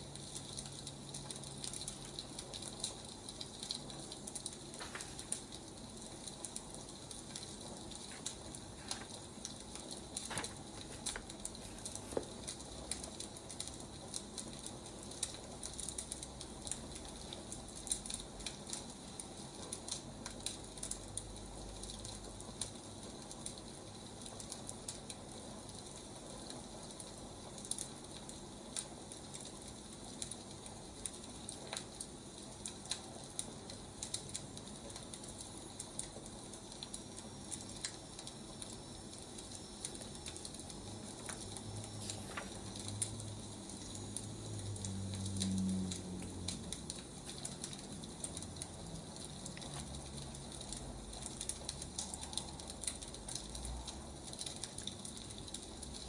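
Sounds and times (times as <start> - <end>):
firewood crackling and hissing: 0.0 - 56.0.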